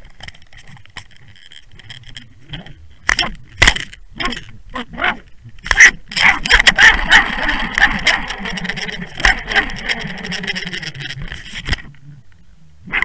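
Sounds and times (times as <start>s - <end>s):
underwater rushing noise: 0.0s - 12.3s
underwater clicking and rattling: 0.0s - 12.4s
low hum: 0.0s - 13.0s.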